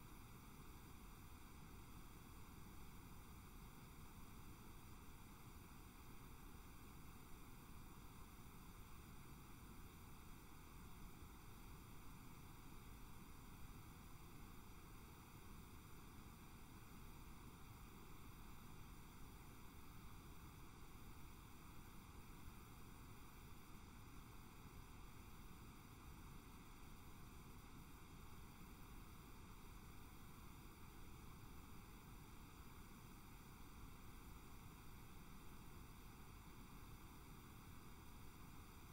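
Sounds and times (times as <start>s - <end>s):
recording noise hiss: 0.0s - 38.9s.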